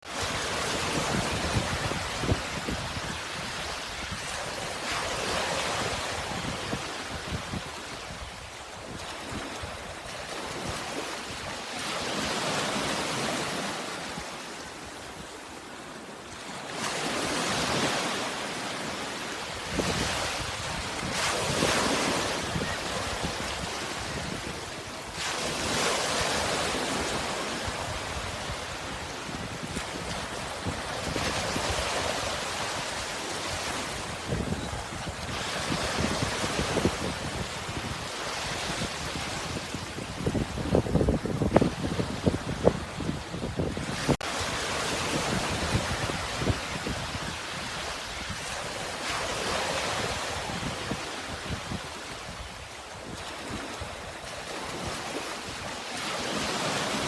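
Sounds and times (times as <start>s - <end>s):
sea waves washing in: 0.0s - 57.0s
wind on microphone: 0.1s - 15.6s, 19.0s - 57.0s.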